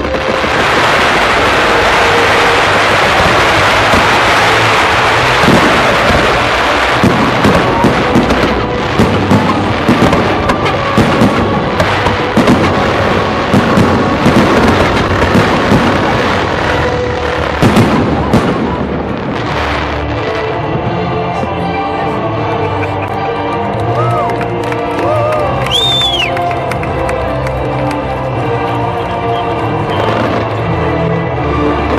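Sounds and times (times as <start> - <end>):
continuous crackle of fireworks: 0.0 - 31.9.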